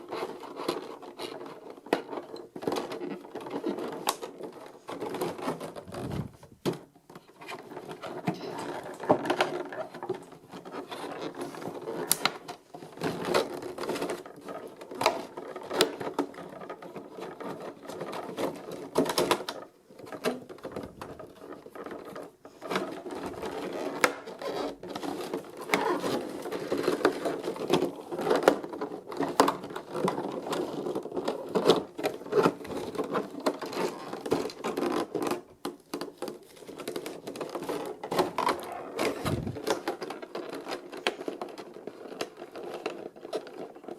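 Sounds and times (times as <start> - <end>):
hands clicking and scraping packaging: 0.0 - 43.9.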